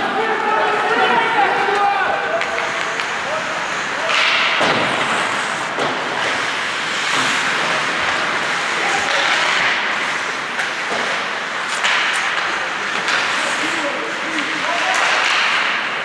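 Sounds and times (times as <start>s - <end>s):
hockey sticks and puck clacking: 0.0s - 16.0s
skate blades scraping ice: 0.7s - 16.0s.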